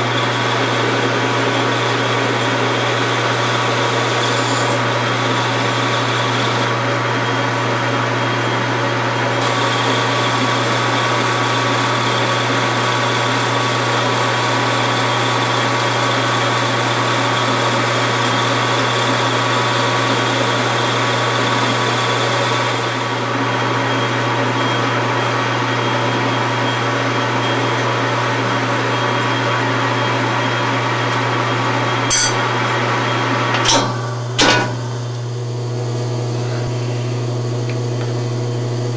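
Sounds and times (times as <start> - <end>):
metal lathe humming and whining: 0.0 - 38.9.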